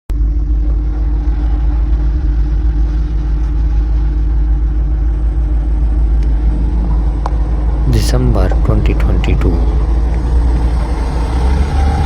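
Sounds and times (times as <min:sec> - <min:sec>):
constant hum: 0:00.1 - 0:11.6.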